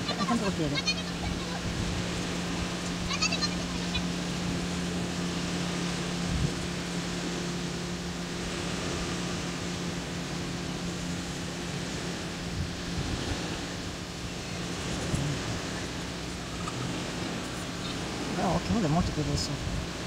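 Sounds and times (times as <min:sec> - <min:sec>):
low hum: 0:00.0 - 0:20.0
small waves washing onto sand: 0:00.0 - 0:20.0
wind on microphone: 0:00.0 - 0:20.0.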